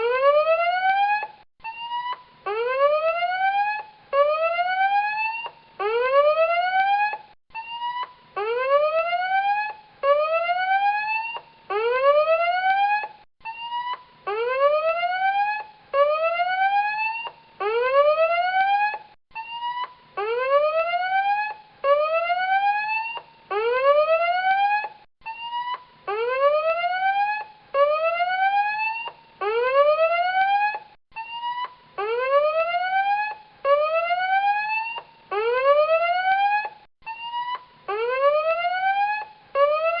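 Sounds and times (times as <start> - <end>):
rising whooping alarm siren: 0.0 - 40.0.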